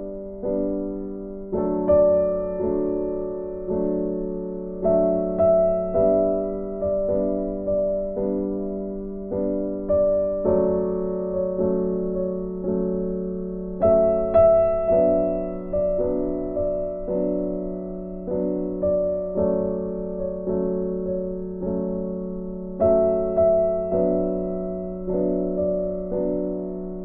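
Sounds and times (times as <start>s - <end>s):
slow piano melody: 0.0s - 27.0s.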